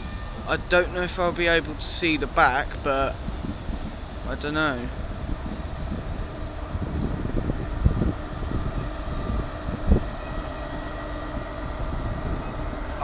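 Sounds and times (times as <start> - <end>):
train diesel engines rumbling: 0.0 - 13.0.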